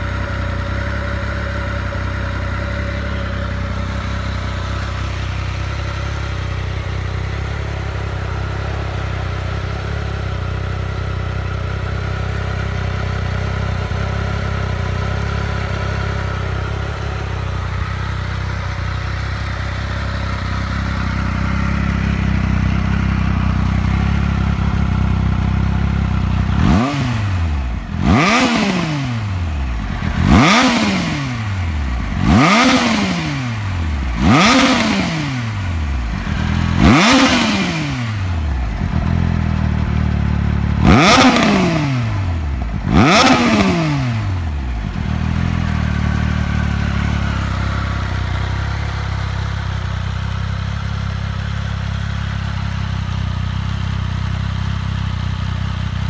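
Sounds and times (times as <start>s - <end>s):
motorcycle engine idling: 0.0s - 56.0s
motorcycle engine revving: 0.0s - 56.0s.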